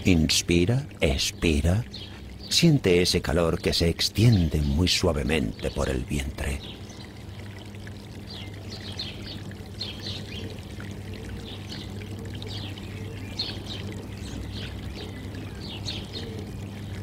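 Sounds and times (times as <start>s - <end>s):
low steady hum: 0.0s - 17.0s
pouring water: 0.0s - 17.0s
small birds chirping: 0.0s - 17.0s.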